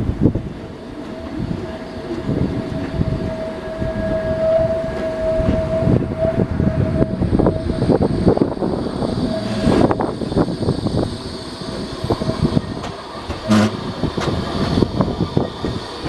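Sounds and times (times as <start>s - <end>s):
rail vehicle wheels clattering: 0.0s - 16.0s
steady rumble: 0.0s - 16.0s.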